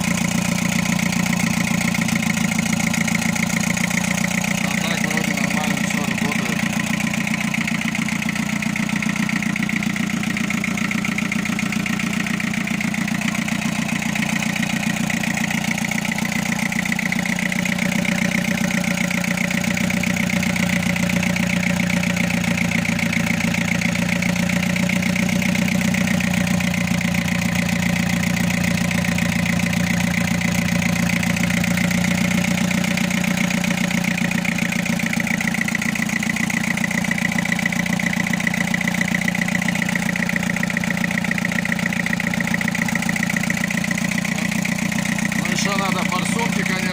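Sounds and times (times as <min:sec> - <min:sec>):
four-cylinder engine idling roughly: 0:00.0 - 0:46.9.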